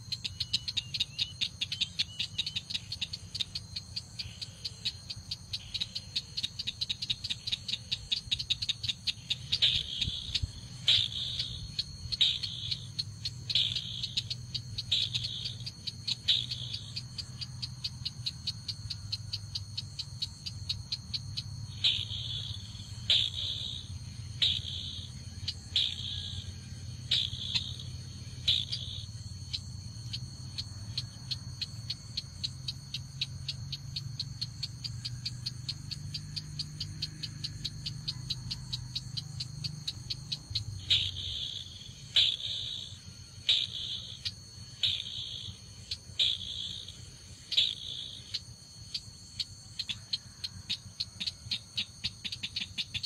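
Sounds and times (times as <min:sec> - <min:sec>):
insect trilling: 0:00.0 - 0:53.0.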